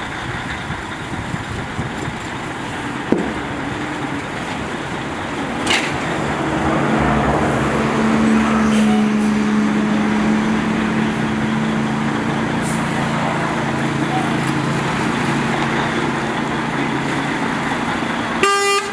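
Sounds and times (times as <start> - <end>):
busy street noise: 0.0 - 18.9
engine humming: 0.0 - 18.9.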